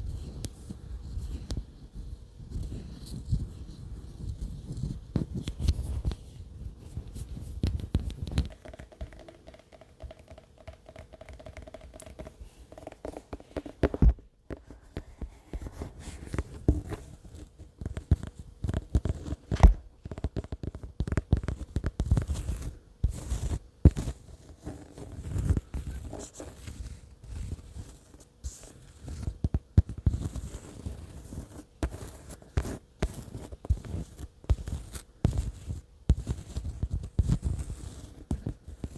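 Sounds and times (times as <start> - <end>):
fingernail tapping and scratching: 7.6 - 38.9.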